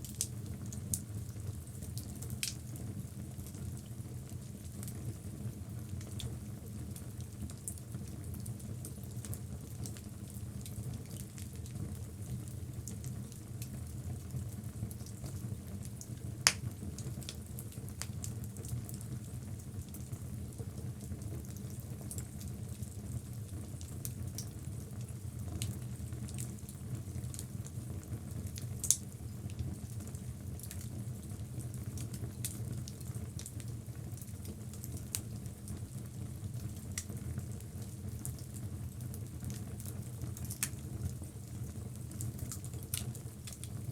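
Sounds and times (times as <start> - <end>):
fire crackling: 0.0 - 43.9.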